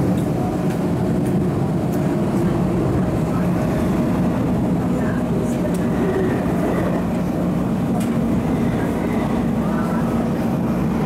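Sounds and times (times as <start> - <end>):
train motor hum: 0.0 - 11.0
wheel and track rumble: 0.0 - 11.0.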